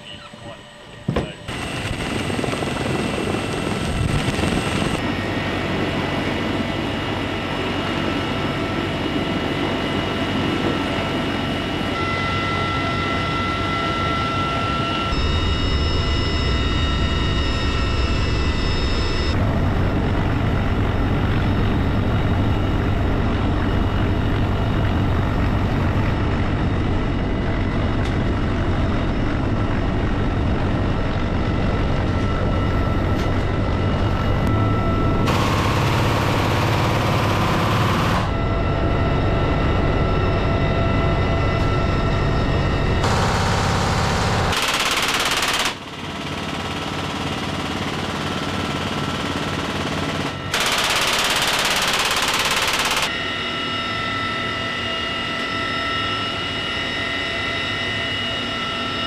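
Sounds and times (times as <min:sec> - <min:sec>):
helicopter rotor rumble: 0:00.0 - 0:59.0
turbine engine whine: 0:00.0 - 0:59.0.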